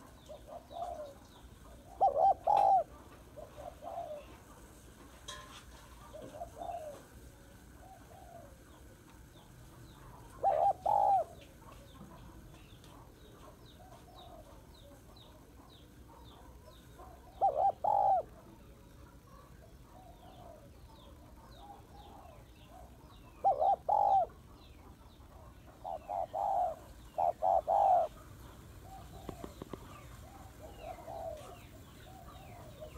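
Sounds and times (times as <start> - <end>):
dove cooing: 0.0 - 4.9, 5.9 - 32.9
small birds chirping: 0.0 - 5.2, 5.8 - 32.9.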